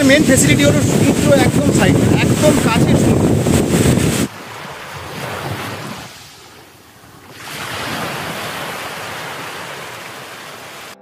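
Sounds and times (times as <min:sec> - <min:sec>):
sea waves breaking over boulders: 0:00.0 - 0:11.0.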